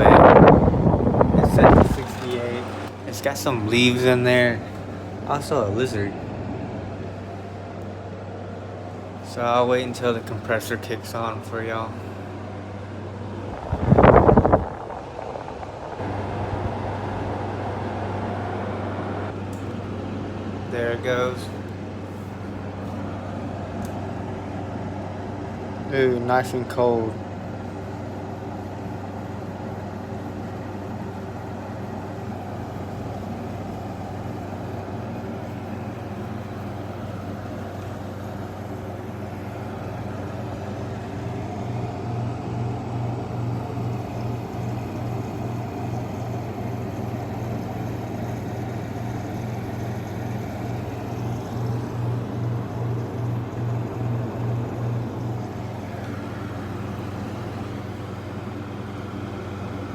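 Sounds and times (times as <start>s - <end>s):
air conditioner compressor hum: 0.0s - 59.9s
air conditioner fan rushing: 0.0s - 59.9s.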